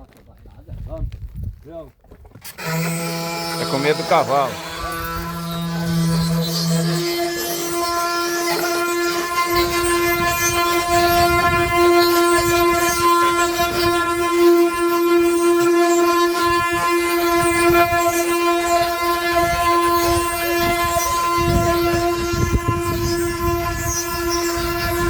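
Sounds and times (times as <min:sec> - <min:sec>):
wooden cart axle droning whine: 0:02.4 - 0:25.0.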